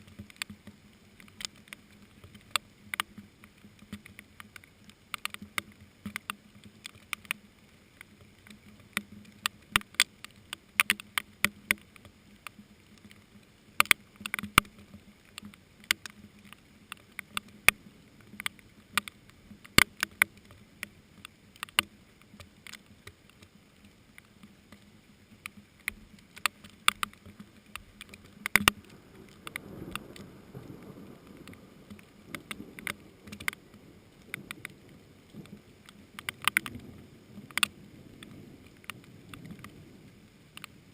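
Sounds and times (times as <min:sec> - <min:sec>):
faint rain hiss: 0:00.0 - 0:40.9
raindrops tapping on plants: 0:00.0 - 0:40.9.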